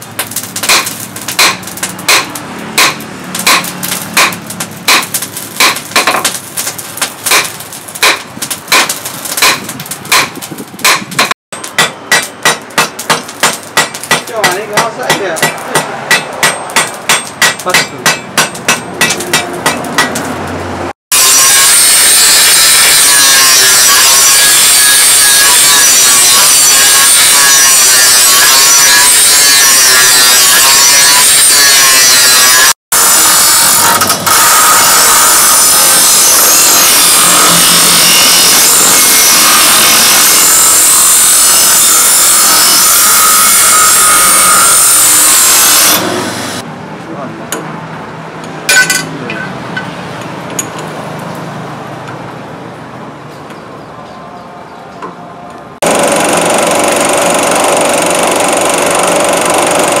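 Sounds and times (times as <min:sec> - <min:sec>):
grinding wheel grinding steel: 0:00.0 - 0:46.7, 0:55.8 - 1:00.0.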